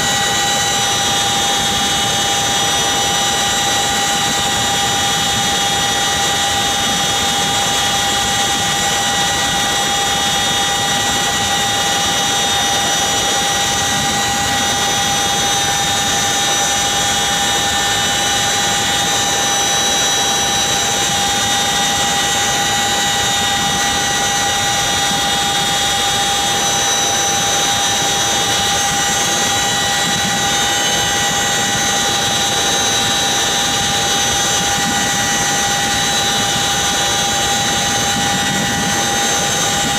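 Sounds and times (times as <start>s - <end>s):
helicopter engine whine: 0.0s - 39.9s
helicopter rotor rushing noise: 0.0s - 39.9s.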